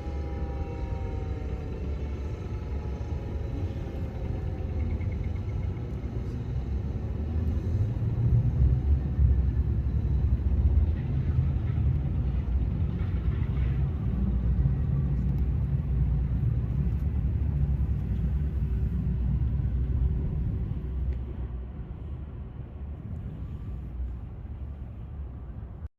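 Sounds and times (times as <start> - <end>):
low outdoor rumble: 0.0 - 25.9.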